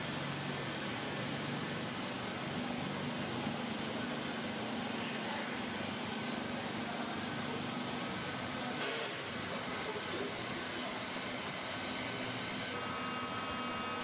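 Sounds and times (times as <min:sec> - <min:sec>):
hot-air welder blower hissing: 0:00.0 - 0:14.0.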